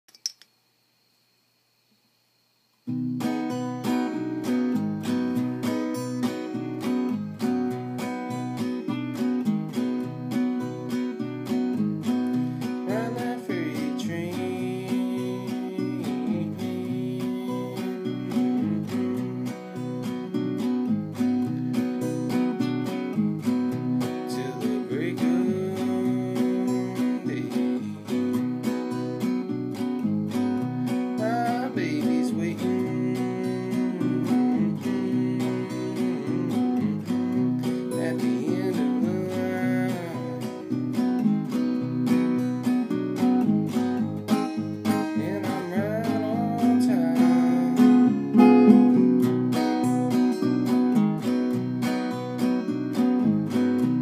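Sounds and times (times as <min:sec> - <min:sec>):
acoustic guitar strumming: 0:02.8 - 0:54.0.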